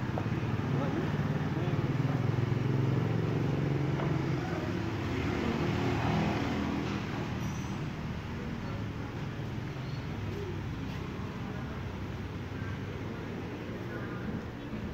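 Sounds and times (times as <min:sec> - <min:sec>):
street traffic: 0:00.0 - 0:14.9.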